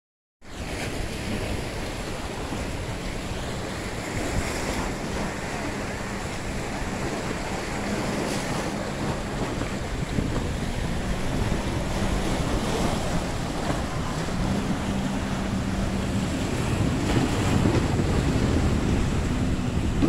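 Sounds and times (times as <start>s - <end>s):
distant jet ski engine drone: 0.5s - 20.0s
wind buffeting microphone: 0.5s - 20.0s
waves lapping against rocks: 0.6s - 20.0s.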